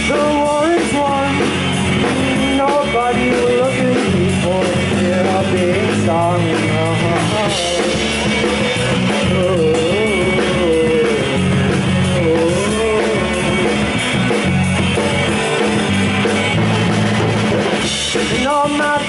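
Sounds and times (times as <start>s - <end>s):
bass guitar: 0.0s - 19.0s
drum kit: 0.0s - 19.0s
electric guitars: 0.0s - 19.0s.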